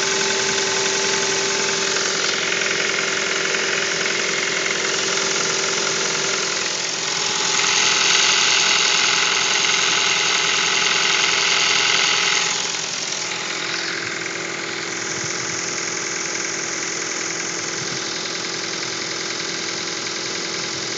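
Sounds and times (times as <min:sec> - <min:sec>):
car engine idling with knock: 0:00.0 - 0:20.9.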